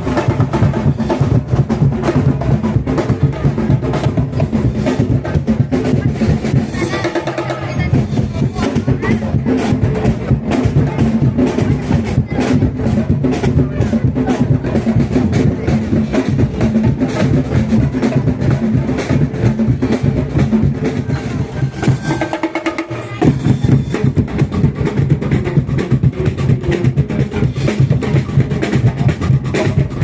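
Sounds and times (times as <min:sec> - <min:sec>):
percussive drum music: 0:00.0 - 0:30.0.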